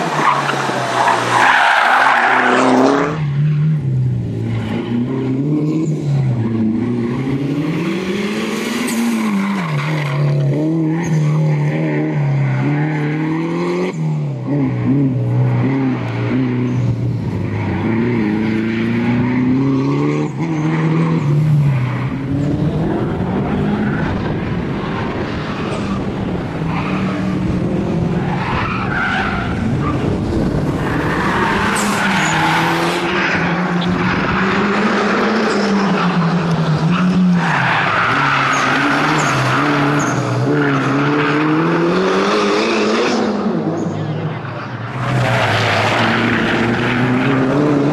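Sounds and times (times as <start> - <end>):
tyres squealing and skidding: 0.0 - 3.8, 4.5 - 13.6, 14.7 - 47.9
car engine revving: 0.0 - 47.9.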